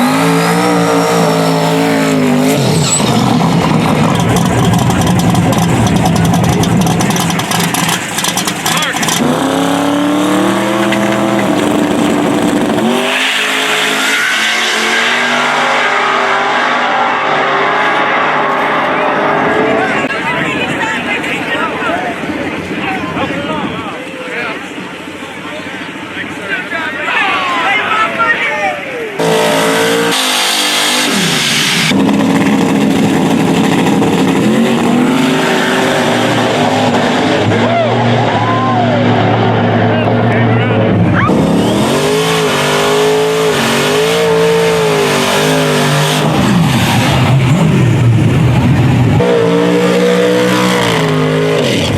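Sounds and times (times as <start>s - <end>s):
race car engine at full throttle: 0.0s - 51.9s.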